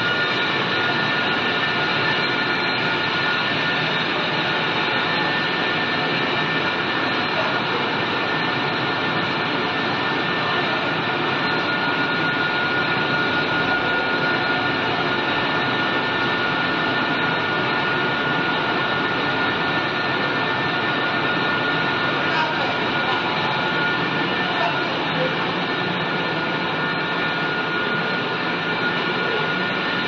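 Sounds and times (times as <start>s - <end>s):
machinery running with high whine: 0.0s - 30.0s.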